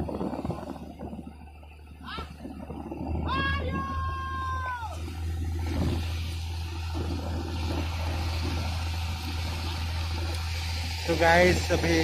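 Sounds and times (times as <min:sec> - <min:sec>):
boat engine droning: 0:00.0 - 0:12.0
churning water: 0:00.0 - 0:12.0.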